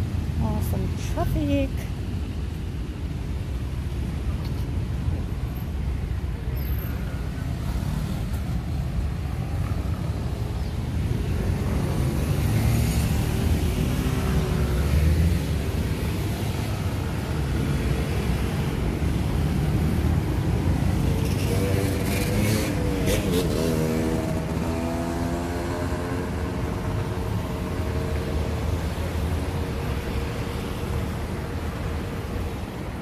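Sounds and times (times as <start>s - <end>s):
cars and motorcycles passing: 0.0s - 33.0s
steady low traffic rumble: 0.0s - 33.0s.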